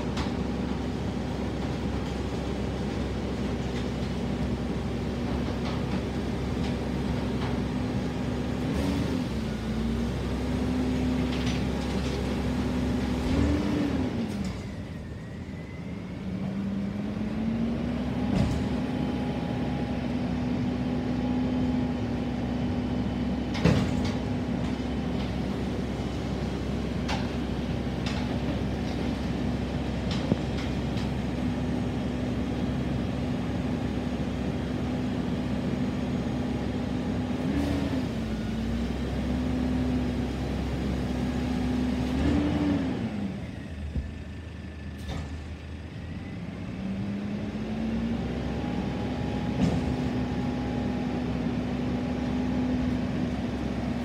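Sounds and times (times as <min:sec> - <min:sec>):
garbage truck diesel engine running: 0:00.0 - 0:54.0.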